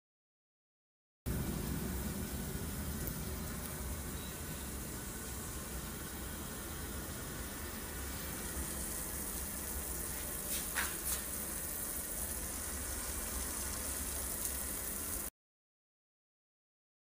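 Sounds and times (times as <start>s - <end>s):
water heating in electric pot: 1.3s - 15.3s.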